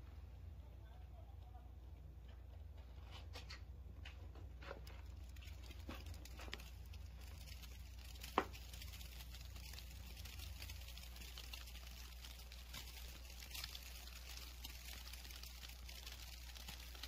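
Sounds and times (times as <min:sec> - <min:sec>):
soft ticks and crackles: 0:00.1 - 0:17.0.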